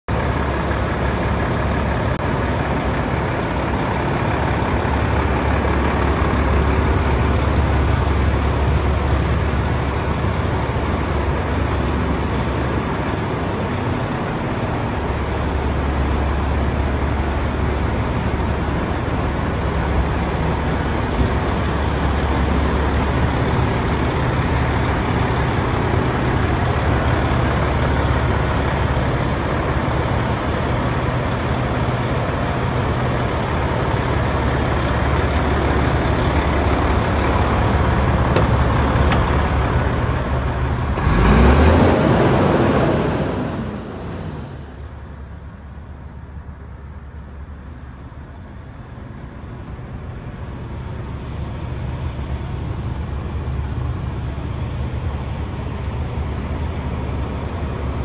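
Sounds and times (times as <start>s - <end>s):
diesel truck engine idling: 0.1s - 58.0s.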